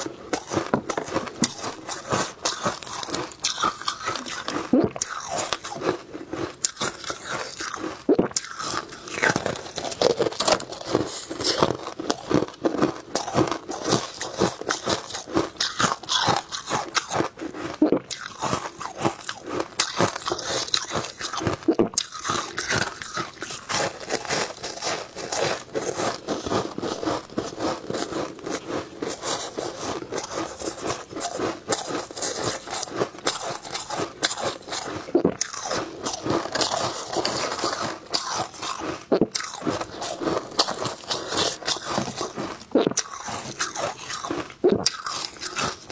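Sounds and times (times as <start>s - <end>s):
ice crunching being chewed: 0.0s - 45.9s.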